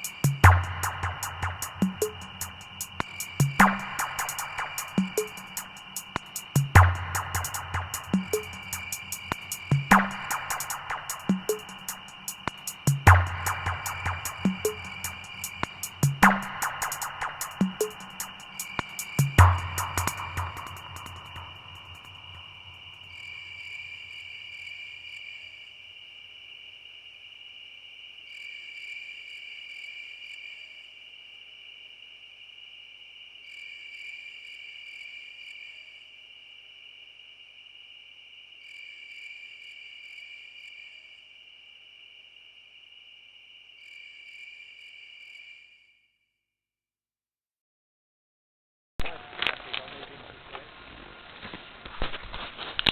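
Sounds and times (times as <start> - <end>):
insects trilling: 0.0 - 46.1.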